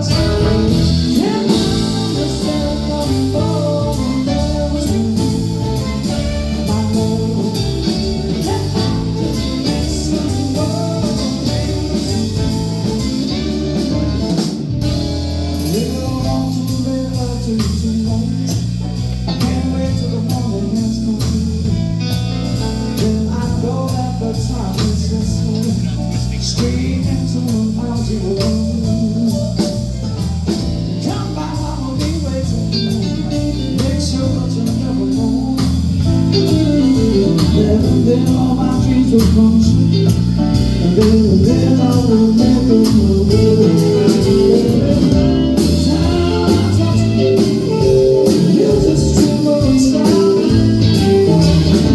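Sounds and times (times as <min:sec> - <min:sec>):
live blues band playing: 0:00.0 - 0:51.9.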